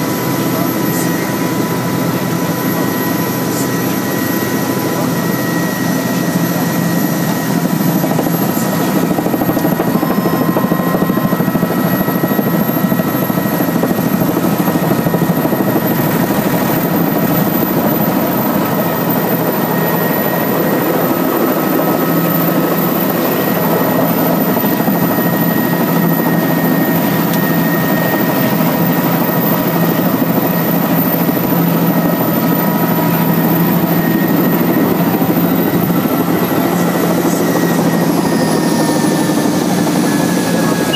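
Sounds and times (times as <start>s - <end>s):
faint high whine: 0.0s - 40.9s
helicopter engine and rotor: 0.0s - 40.9s.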